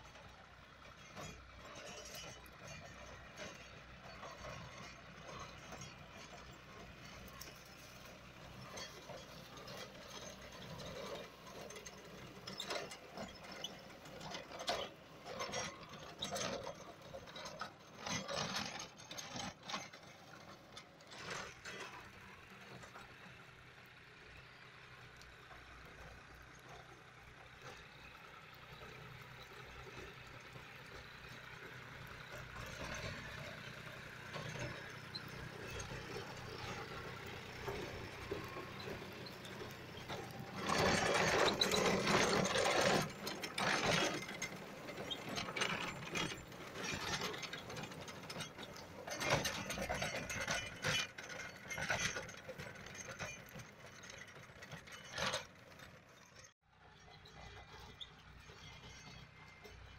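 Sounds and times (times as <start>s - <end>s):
tractor diesel engine running: 0.0s - 59.9s
rotavator churning soil: 1.1s - 23.1s, 27.6s - 56.1s.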